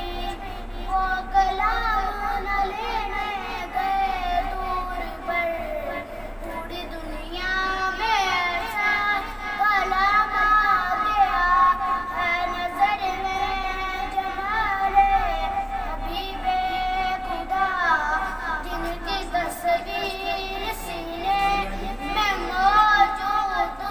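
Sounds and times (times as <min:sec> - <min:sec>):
boy singing unaccompanied: 0:00.0 - 0:23.9.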